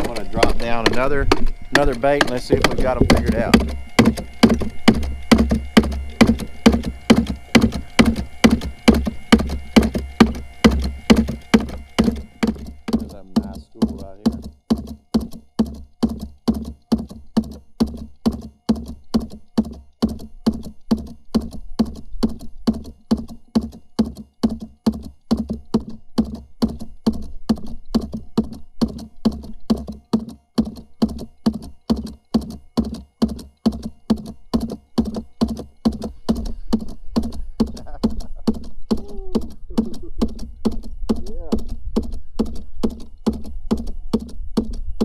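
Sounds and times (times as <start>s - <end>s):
low motor hum: 0.0s - 29.9s, 30.6s - 45.0s.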